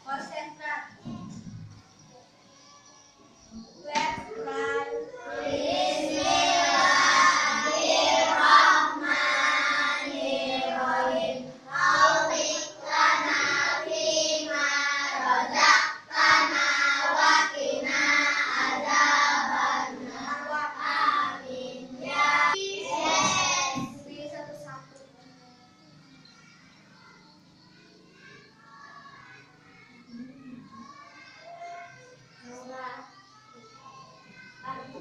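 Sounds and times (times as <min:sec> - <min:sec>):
children singing together: 0:02.6 - 0:24.7, 0:25.8 - 0:35.0.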